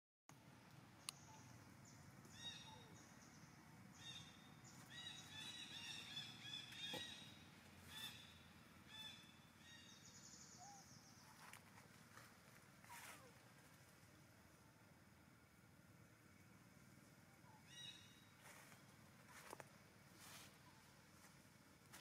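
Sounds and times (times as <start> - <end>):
birds chirping: 0.4 - 22.0.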